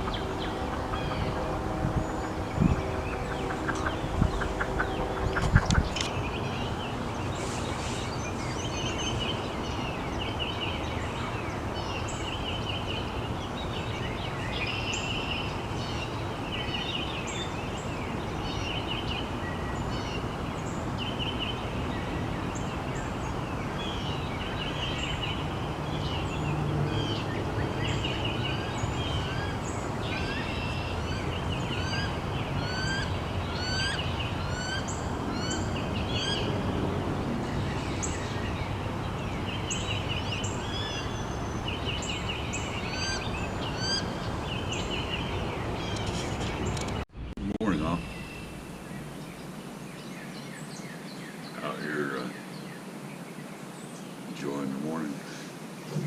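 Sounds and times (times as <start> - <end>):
steady background hiss: 4.5 - 56.0.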